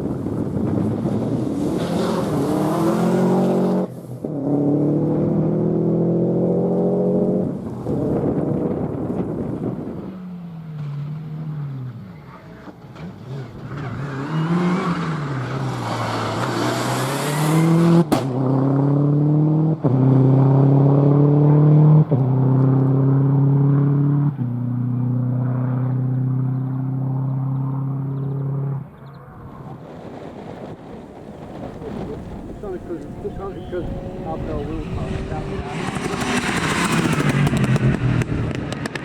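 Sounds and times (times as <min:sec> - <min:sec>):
rally car engines: 0:00.0 - 0:39.0.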